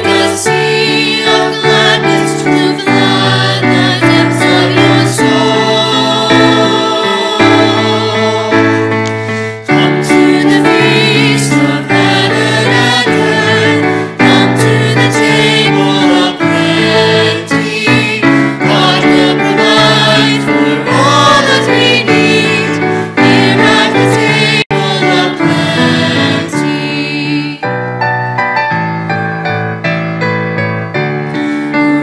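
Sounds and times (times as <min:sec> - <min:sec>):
choir singing a hymn: 0:00.0 - 0:27.7
piano accompaniment: 0:00.0 - 0:32.0.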